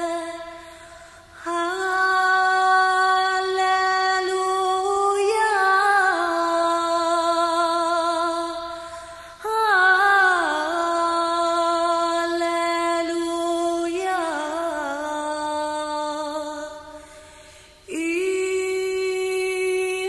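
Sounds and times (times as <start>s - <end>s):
woman singing a hymn: 0.0s - 17.2s, 17.8s - 20.0s.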